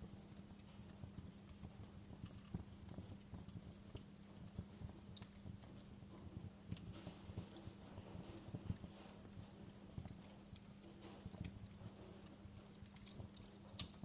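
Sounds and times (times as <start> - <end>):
faint low hum: 0.0 - 14.0
wood fire crackling: 0.0 - 14.0.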